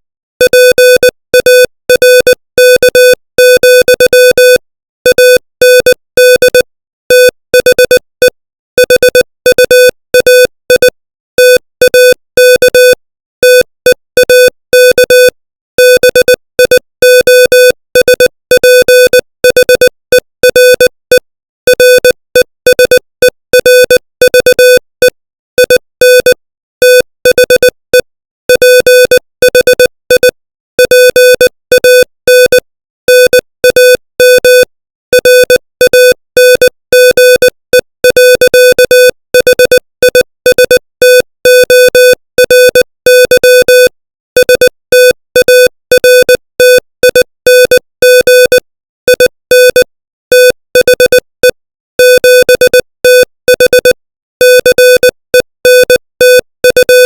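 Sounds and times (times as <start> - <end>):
morse code tone: 0.4 - 57.0.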